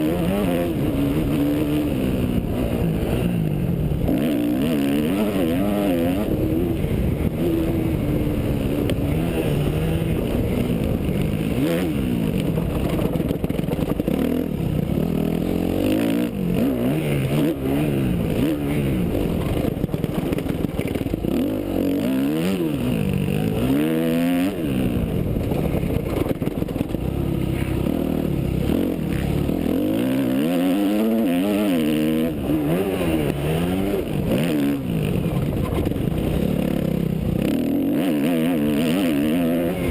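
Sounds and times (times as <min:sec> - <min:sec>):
motocross bike engine revving: 0:00.0 - 0:39.9
wind and track noise: 0:00.0 - 0:39.9.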